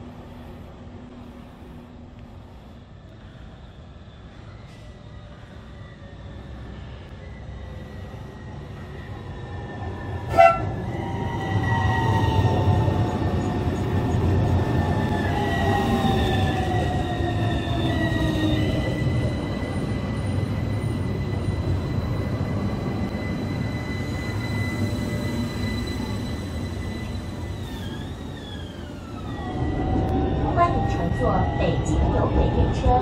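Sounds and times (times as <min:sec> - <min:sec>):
tram wheel-on-rail rumble: 0:00.0 - 0:33.0.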